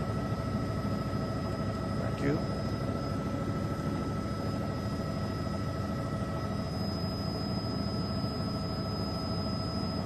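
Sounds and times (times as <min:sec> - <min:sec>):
helicopter engine and rotors droning: 0:00.0 - 0:10.0
thin whining tones: 0:00.0 - 0:10.0.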